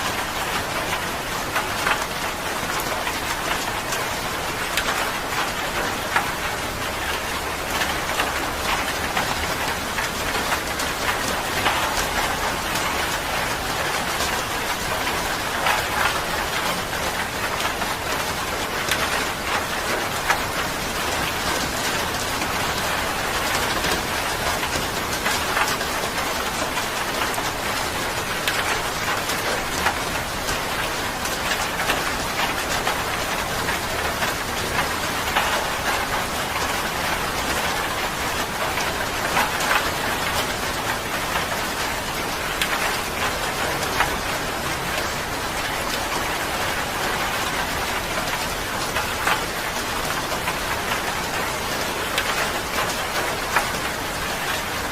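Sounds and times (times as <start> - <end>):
rain pattering on a surface: 0.0 - 54.9.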